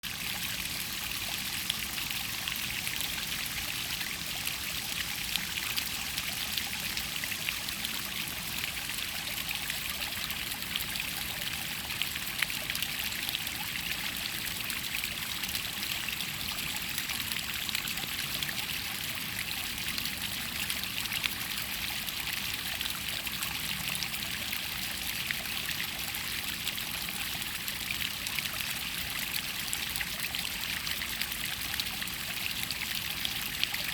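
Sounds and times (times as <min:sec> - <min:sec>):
stream babbling over rock: 0:00.0 - 0:33.9.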